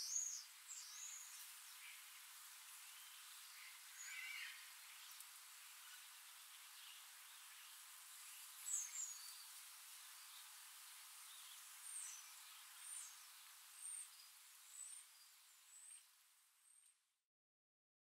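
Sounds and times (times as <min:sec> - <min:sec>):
faint outdoor hiss: 0:00.0 - 0:17.2.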